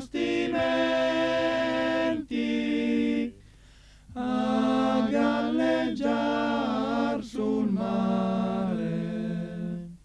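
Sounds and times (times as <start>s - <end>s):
person singing unaccompanied: 0.0s - 3.5s, 4.1s - 10.0s.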